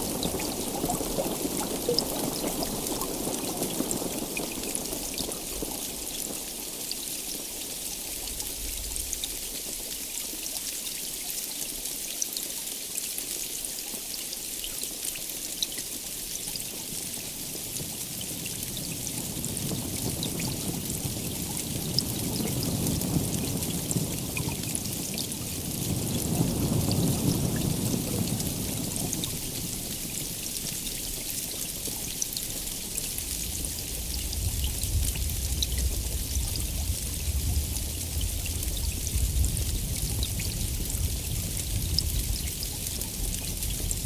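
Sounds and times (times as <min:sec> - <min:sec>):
heavy rain: 0:00.0 - 0:10.4, 0:15.5 - 0:44.0.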